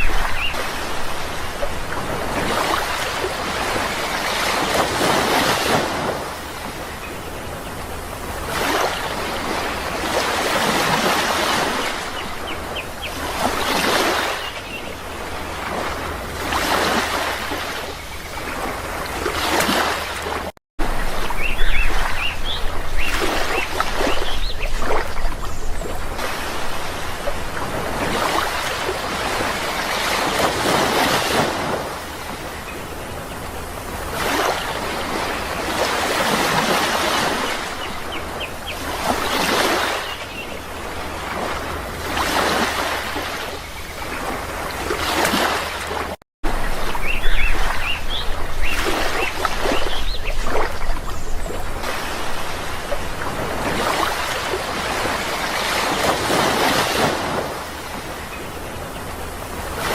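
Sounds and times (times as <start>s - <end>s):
sea waves washing ashore: 0.0s - 59.9s.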